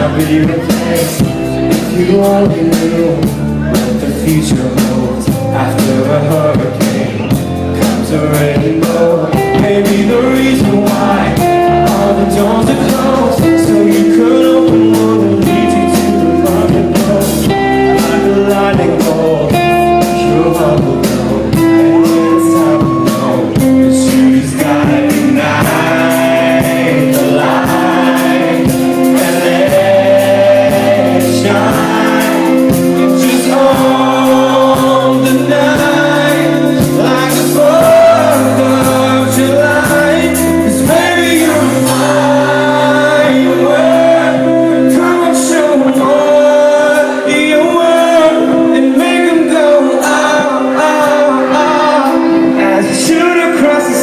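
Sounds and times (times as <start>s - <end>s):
live band playing pop song: 0.0s - 54.0s
person singing: 0.0s - 54.0s
strummed guitar rhythm: 0.0s - 54.0s.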